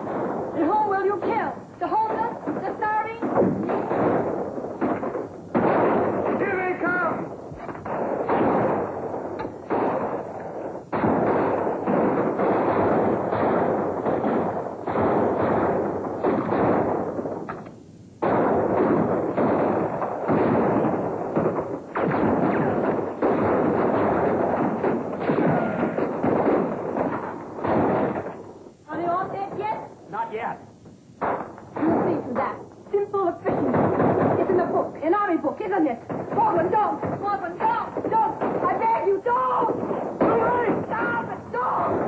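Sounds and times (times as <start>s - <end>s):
fire crackling with pops: 0.0s - 42.0s.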